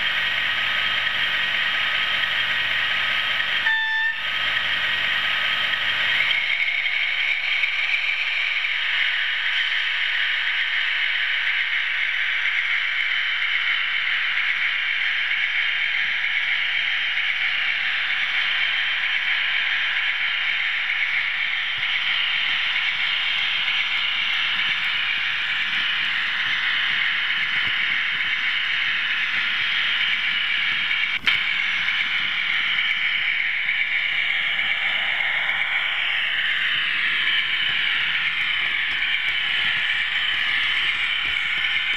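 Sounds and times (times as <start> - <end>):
model train whirring rattle: 0.0 - 41.9.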